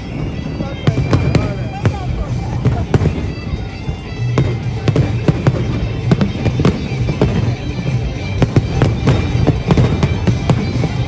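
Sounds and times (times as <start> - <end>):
fireworks shells bursting: 0.0 - 11.0
music playing: 0.0 - 11.0.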